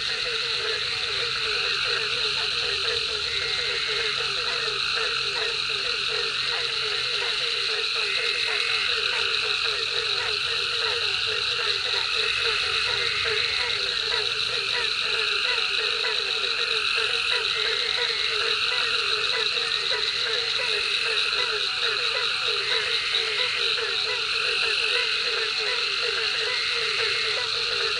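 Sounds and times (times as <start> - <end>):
frogs calling: 0.0 - 27.9.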